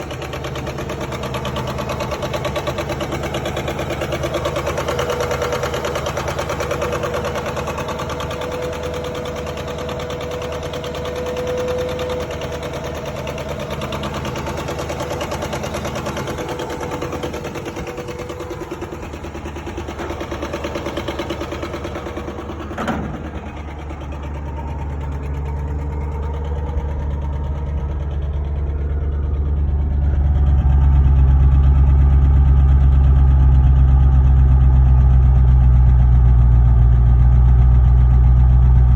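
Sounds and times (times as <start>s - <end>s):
petrol engine knocking: 0.0s - 38.9s.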